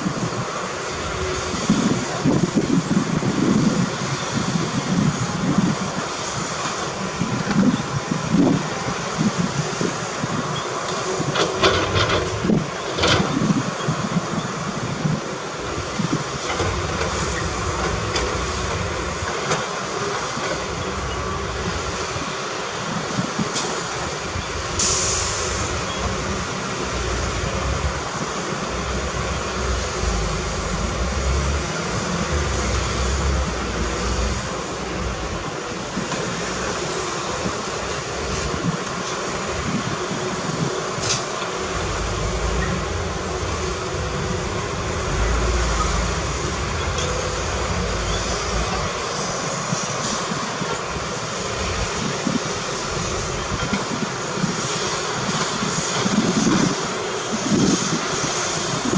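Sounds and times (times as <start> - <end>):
diesel machinery running: 0.0 - 58.9.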